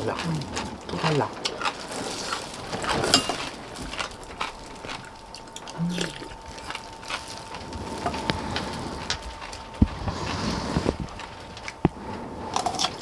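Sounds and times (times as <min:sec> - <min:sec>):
utensils clinking against bowls: 0:00.0 - 0:13.0.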